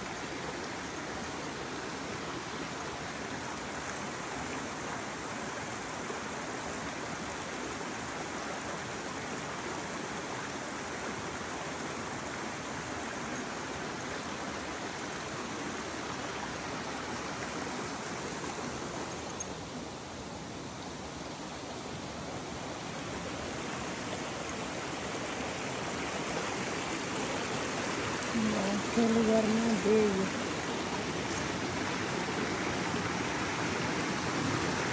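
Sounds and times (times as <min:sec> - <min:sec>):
creek water running: 0:00.0 - 0:34.9.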